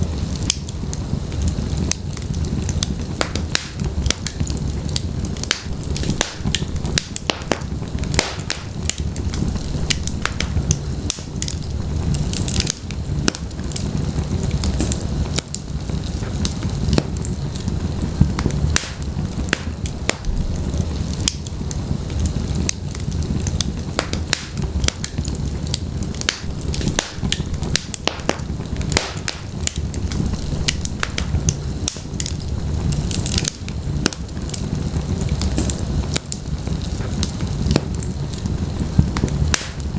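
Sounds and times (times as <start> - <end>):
logs crackling and popping: 0.0 - 39.9
low rumble of flame: 0.0 - 39.9.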